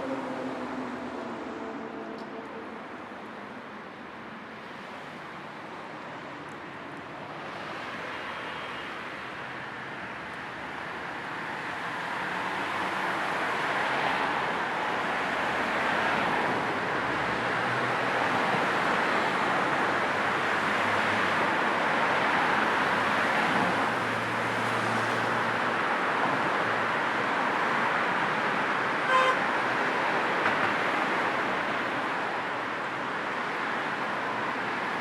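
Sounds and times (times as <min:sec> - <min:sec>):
car road and tyre noise: 0:00.0 - 0:35.0.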